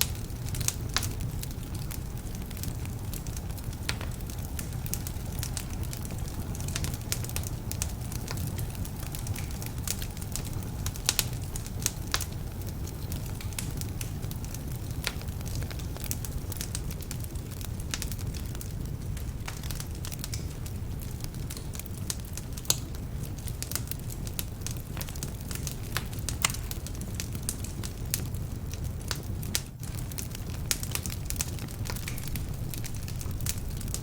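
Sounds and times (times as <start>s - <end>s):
logs crackling and popping: 0.0s - 34.0s
rumble of flames: 0.0s - 34.0s.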